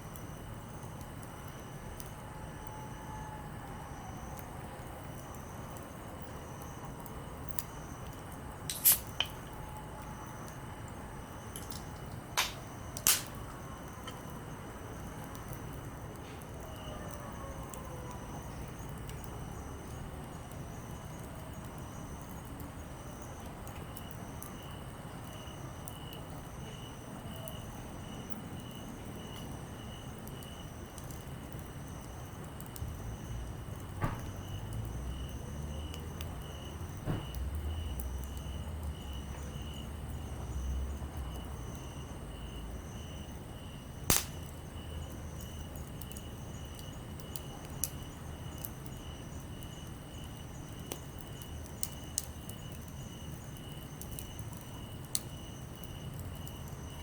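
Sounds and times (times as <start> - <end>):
insects chirping: 0.0 - 57.0
wood fire crackling and popping: 0.0 - 57.0.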